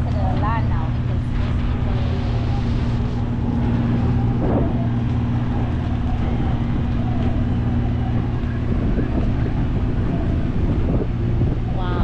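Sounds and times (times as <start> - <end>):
boat motor droning: 0.0 - 12.0
wind noise: 0.0 - 12.0.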